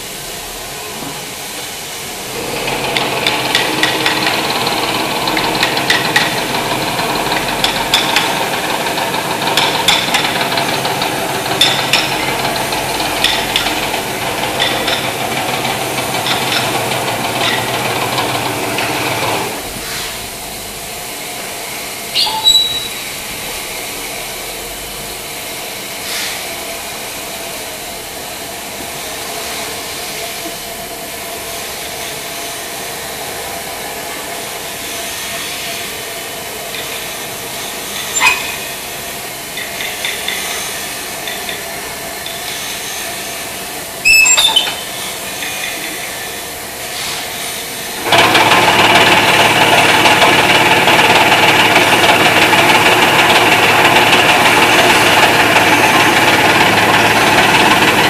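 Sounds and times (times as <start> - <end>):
factory background: 0.0 - 58.0
woodworking machinery droning: 0.0 - 58.0.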